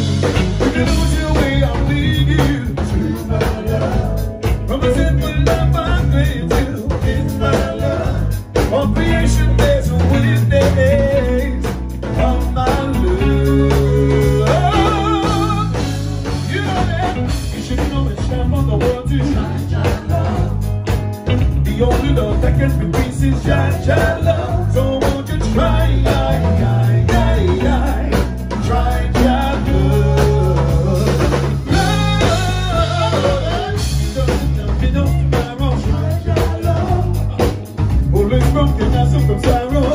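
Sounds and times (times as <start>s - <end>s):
reggae band playing: 0.0s - 39.9s
man singing into microphone: 0.6s - 39.9s.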